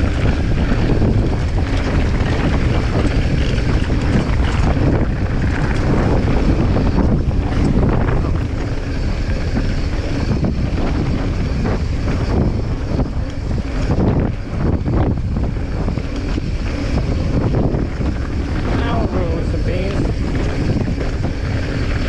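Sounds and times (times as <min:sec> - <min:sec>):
bike knocking and rattling: 0:00.0 - 0:22.0
bike rolling rumble: 0:00.0 - 0:22.0
wind rushing over microphone: 0:00.0 - 0:22.0.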